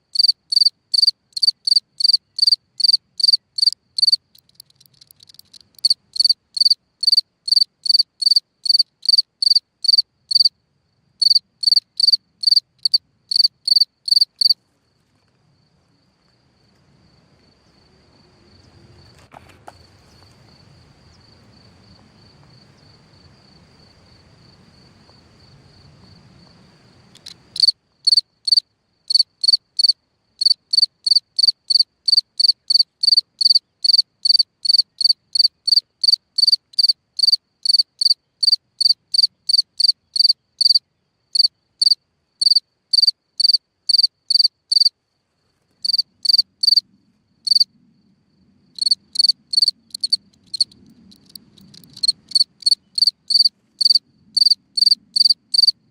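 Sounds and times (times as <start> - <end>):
cricket chirping: 0.0 - 55.9
cricket trilling: 0.1 - 10.6, 11.2 - 14.6, 15.6 - 55.9.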